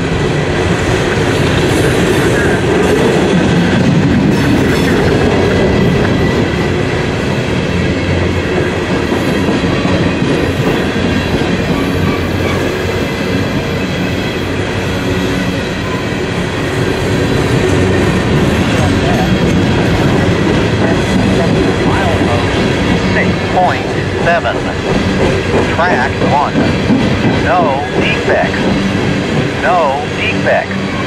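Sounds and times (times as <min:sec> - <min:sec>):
steel wheels running on rails: 0:00.0 - 0:31.0.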